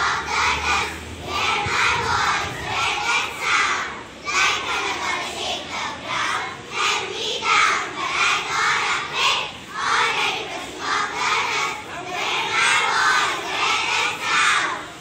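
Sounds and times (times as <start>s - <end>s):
girls singing in unison: 0.0s - 15.0s.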